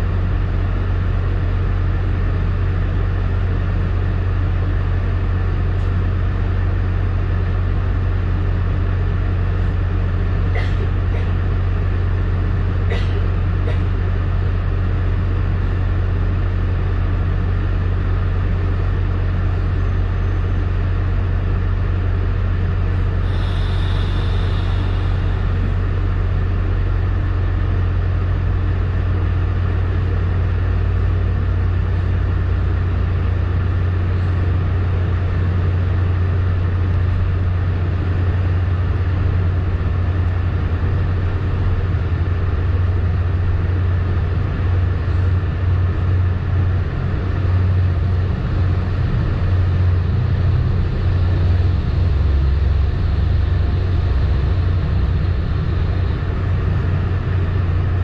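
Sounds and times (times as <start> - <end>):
train rumbling along track: 0.0 - 58.0.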